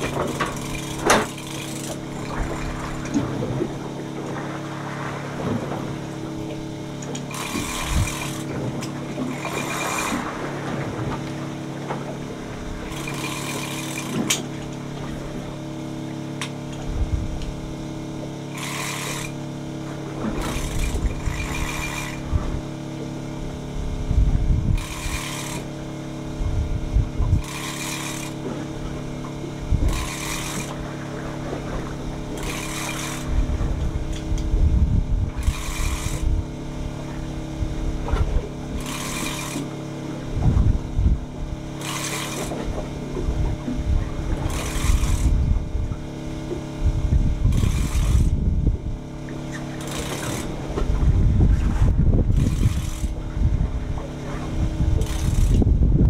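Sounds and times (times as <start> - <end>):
fishing reel whirring: 0.0 - 3.2, 6.1 - 10.5, 12.7 - 23.8, 24.5 - 56.0
boat engine hum: 0.0 - 56.0.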